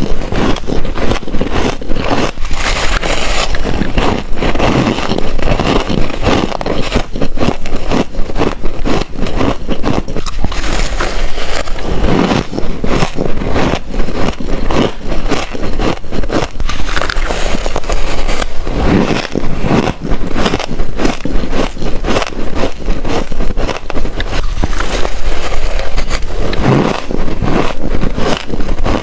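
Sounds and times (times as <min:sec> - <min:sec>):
frost being bitten and chewed: 0:00.0 - 0:29.0.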